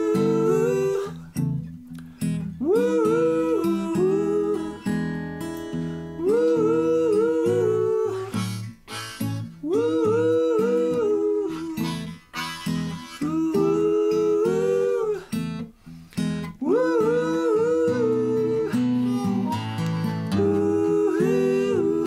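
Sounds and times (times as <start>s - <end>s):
strummed acoustic guitar: 0.0s - 22.0s
blues harmonica solo: 3.2s - 22.0s.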